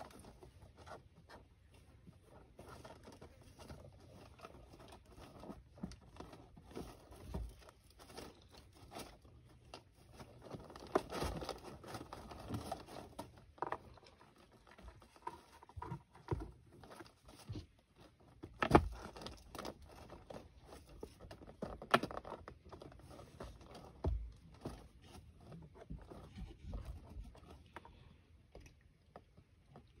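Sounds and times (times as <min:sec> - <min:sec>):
cardboard rustling and scraping: 0:00.0 - 0:28.1.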